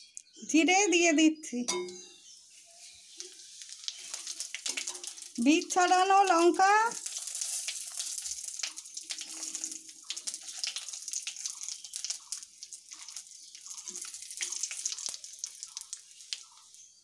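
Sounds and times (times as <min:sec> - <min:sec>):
spices sizzling in hot oil: 0:02.2 - 0:17.0.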